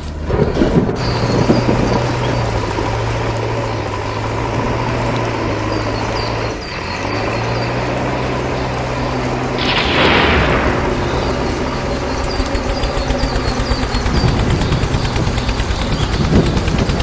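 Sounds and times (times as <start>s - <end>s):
diesel engine of heavy machinery: 0.0s - 17.0s
rain hissing: 0.0s - 17.0s.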